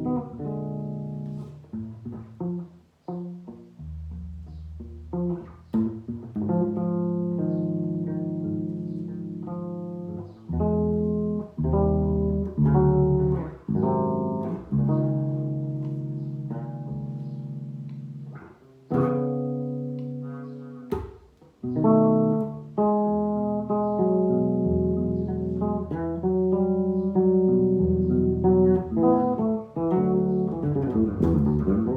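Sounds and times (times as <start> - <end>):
bass plucked chords and notes: 0.0 - 31.9.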